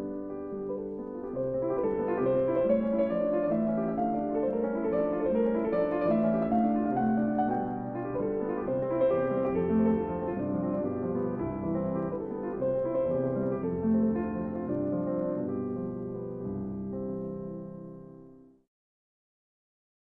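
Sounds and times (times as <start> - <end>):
classical piano music: 0.0 - 18.6.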